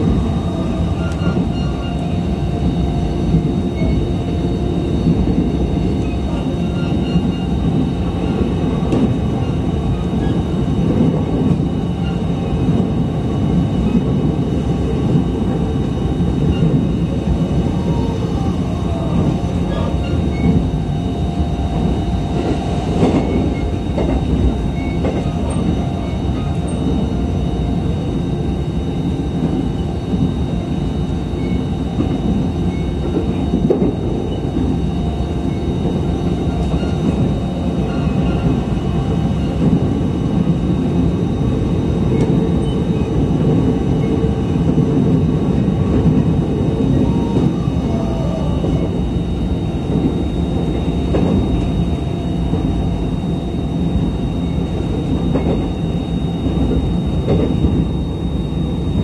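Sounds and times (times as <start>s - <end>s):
rumble of wheels on rails: 0.0s - 59.0s.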